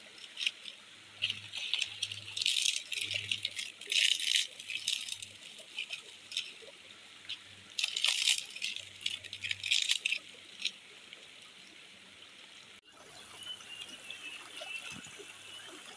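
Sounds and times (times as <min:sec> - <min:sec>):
stream trickling over rocks: 0:00.0 - 0:15.9.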